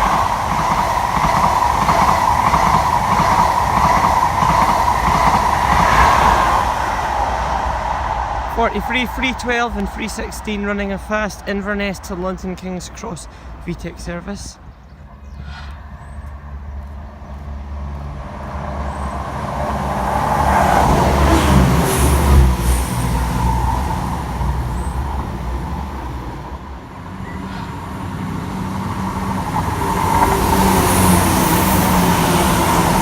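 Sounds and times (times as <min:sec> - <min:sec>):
diesel train engines approaching: 0:00.0 - 0:33.0
high-speed train passing: 0:00.0 - 0:33.0.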